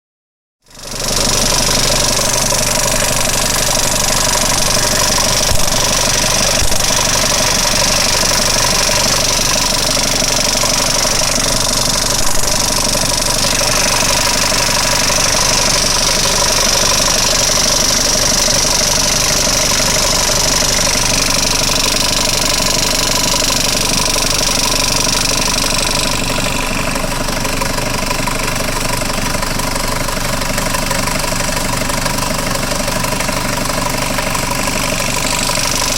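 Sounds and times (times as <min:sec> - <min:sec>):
diesel engine running: 0:00.7 - 0:35.9
injection pump knocking: 0:00.7 - 0:35.9.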